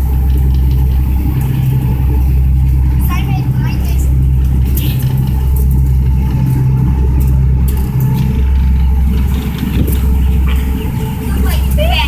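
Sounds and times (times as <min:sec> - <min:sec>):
boat engine drone: 0:00.0 - 0:12.0
wind noise on microphone: 0:00.0 - 0:12.0.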